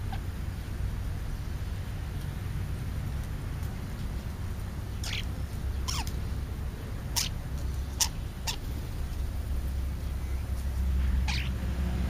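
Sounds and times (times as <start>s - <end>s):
birds calling: 0.0s - 2.9s, 3.6s - 12.0s.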